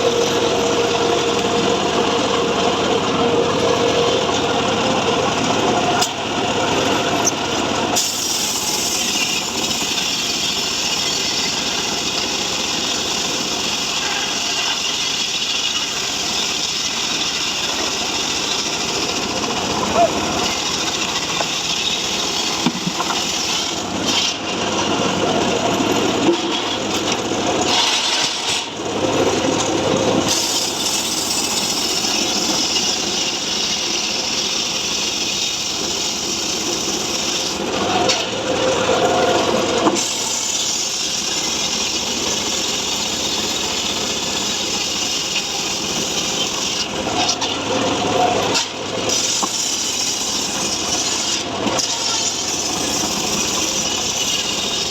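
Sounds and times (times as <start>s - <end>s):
sawmill sawing wood: 0.0s - 27.0s, 27.6s - 54.9s.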